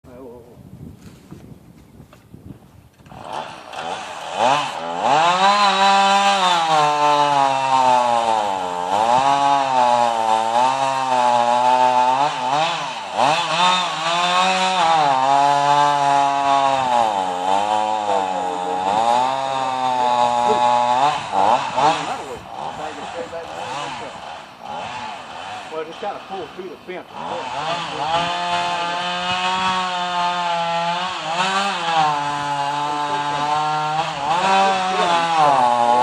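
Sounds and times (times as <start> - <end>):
chainsaw sawing into tree: 3.0 - 36.0.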